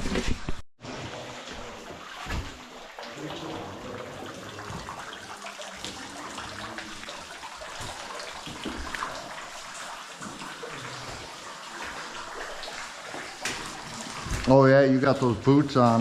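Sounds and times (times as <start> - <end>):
water rushing in a cave: 0.9 - 16.0.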